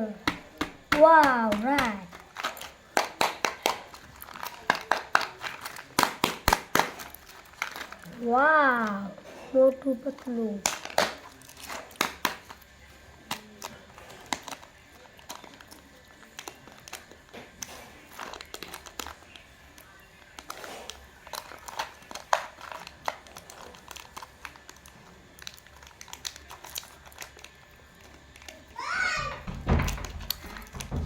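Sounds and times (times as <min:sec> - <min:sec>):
candy wrappers crinkling and tearing: 0:00.0 - 0:31.0.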